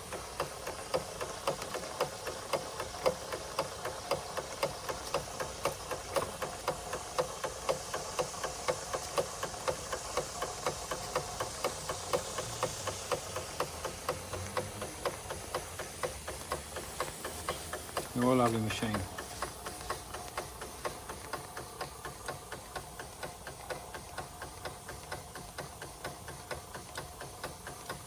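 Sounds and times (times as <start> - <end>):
toy steam engine clicking: 0.0 - 28.0.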